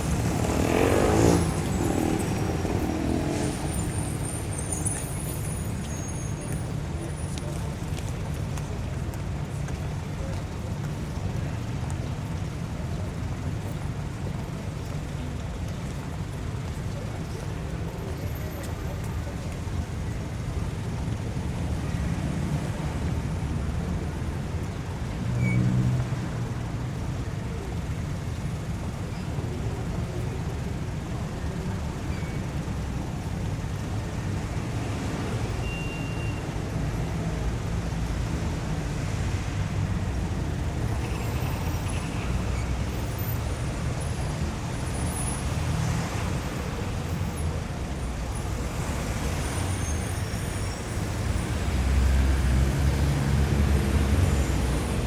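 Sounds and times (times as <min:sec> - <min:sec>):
cars going by: 0:00.0 - 0:55.0.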